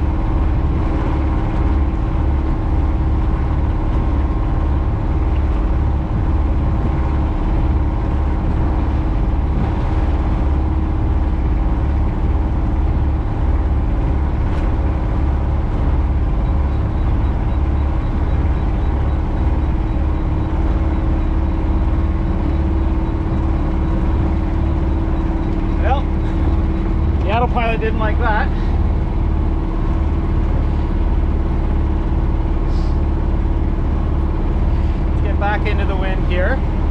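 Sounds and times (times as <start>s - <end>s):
wind on microphone: 0.0s - 35.3s
boat engine droning: 0.0s - 36.9s.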